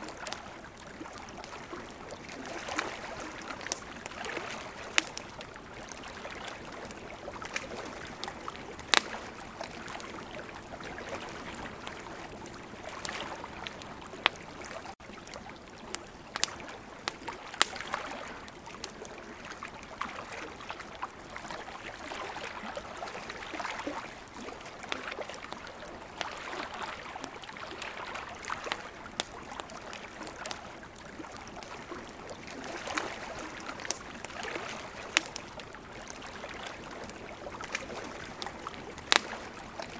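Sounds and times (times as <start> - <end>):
ocean waves: 0.0 - 15.0, 16.4 - 39.9
campfire crackling: 0.0 - 39.9.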